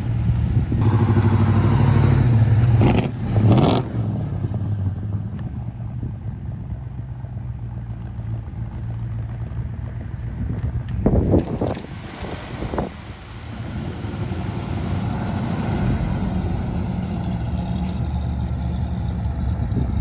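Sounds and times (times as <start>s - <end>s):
car engine revving: 0.0s - 10.1s, 11.0s - 20.0s
car engine running: 0.0s - 20.0s.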